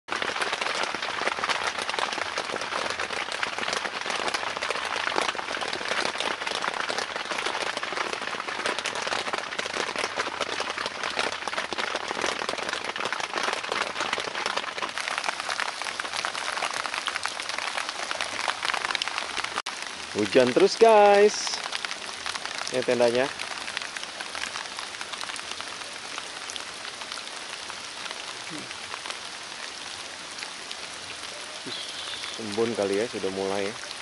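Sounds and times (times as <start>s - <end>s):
rain on tent fabric: 0.1s - 34.0s.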